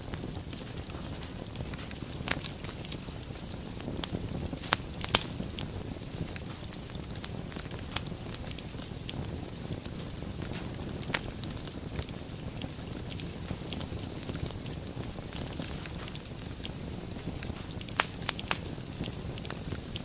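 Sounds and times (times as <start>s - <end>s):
burning logs popping and snapping: 0.0s - 20.0s
wood fire crackling: 0.0s - 20.0s.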